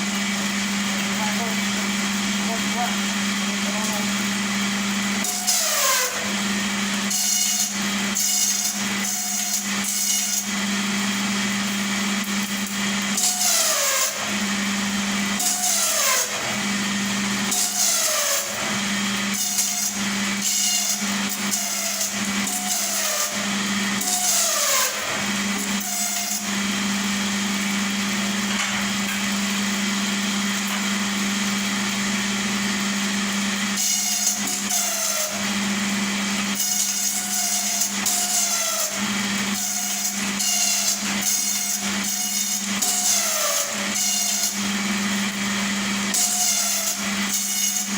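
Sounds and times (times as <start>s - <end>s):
rasping wood-working noise: 0.0s - 47.9s.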